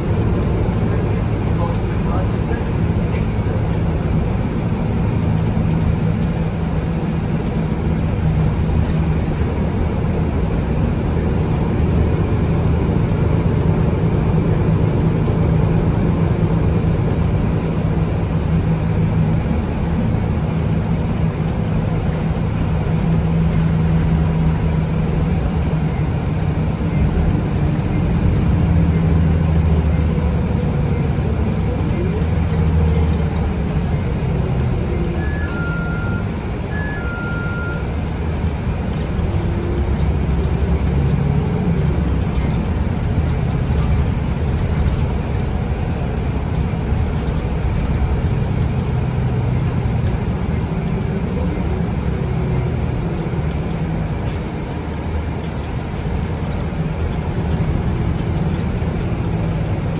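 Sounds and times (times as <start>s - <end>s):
bus diesel engine drone: 0.0s - 59.9s
tyre and road noise: 0.0s - 59.9s.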